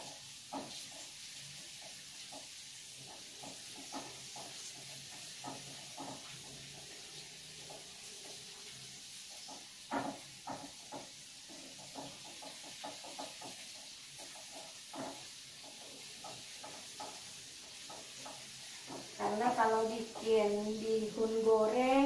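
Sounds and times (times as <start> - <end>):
food sizzling in oil: 0.0 - 22.0
spatula scraping and knocking pan: 0.0 - 22.0.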